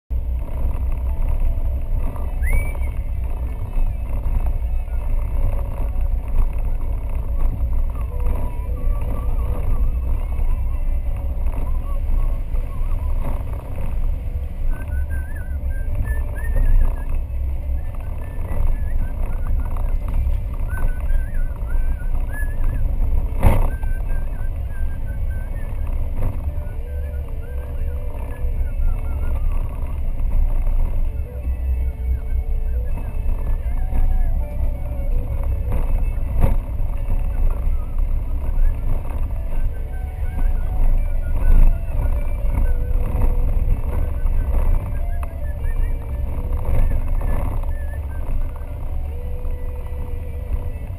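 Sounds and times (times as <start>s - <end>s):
engine and tyre rumble: 0.0s - 50.9s
high wavering squeak: 0.4s - 50.9s.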